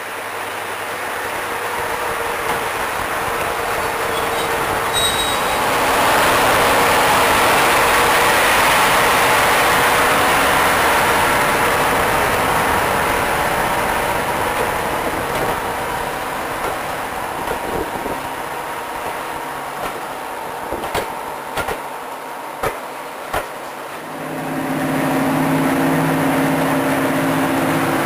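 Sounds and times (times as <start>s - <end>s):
coaches rumbling on rails: 0.0s - 28.0s
diesel locomotive engine working: 0.0s - 28.0s.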